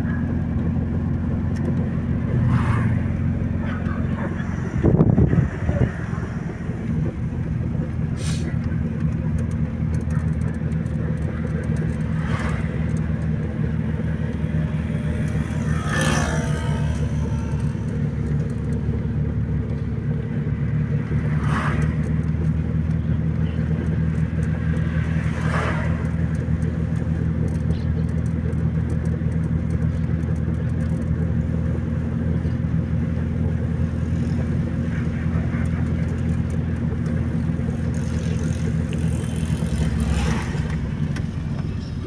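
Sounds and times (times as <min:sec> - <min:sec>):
car cabin road hum: 0:00.0 - 0:42.0.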